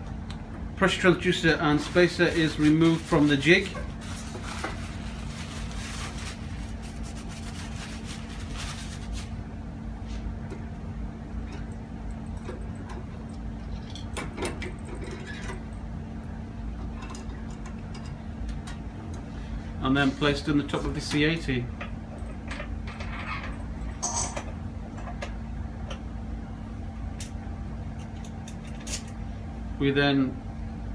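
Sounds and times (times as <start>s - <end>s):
equipment humming: 0.0s - 30.9s.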